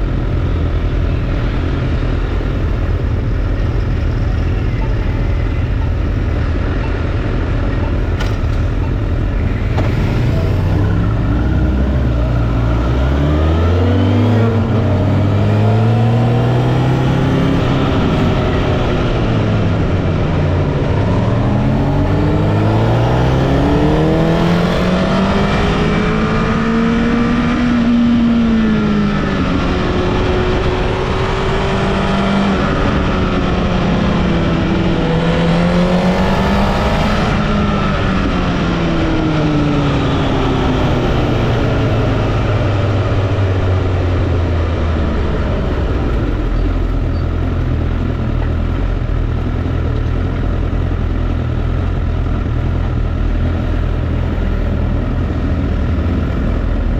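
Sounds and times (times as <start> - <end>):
motorcycle engine revving: 0.0 - 56.9
wind and road noise: 0.0 - 56.9.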